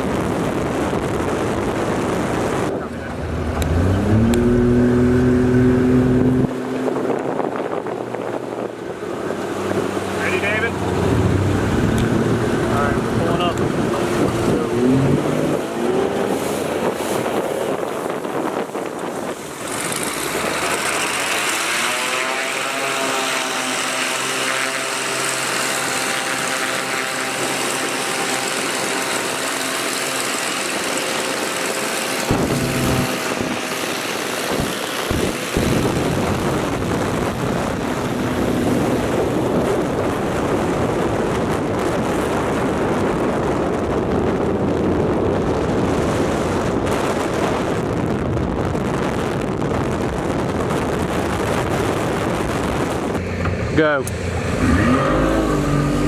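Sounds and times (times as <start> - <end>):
propeller engine at takeoff power: 0.0 - 56.0
rushing water noise: 0.0 - 56.0.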